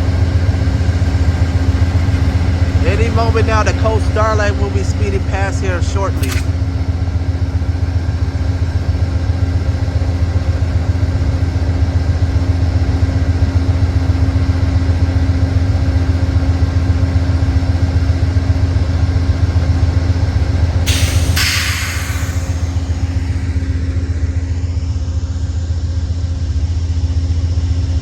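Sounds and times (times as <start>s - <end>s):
diesel locomotive idling: 0.0s - 28.0s.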